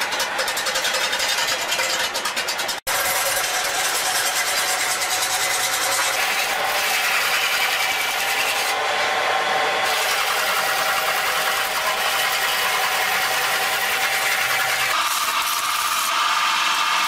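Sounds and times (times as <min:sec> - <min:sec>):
wood lathe running: 0:00.0 - 0:17.0.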